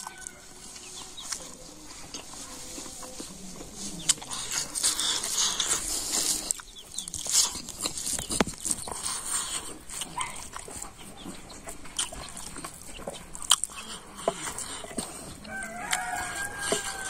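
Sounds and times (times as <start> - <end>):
animals calling: 0.0 - 17.0
man chewing with lip smacks: 0.0 - 17.0.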